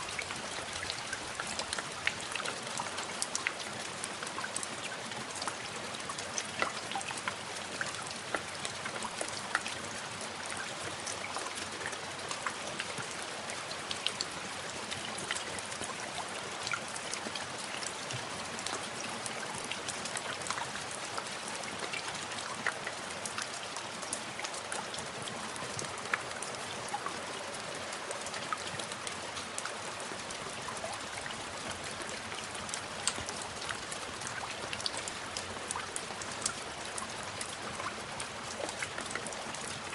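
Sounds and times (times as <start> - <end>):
rain falling: 0.0 - 39.9
raindrops ticking on a surface: 0.0 - 39.9.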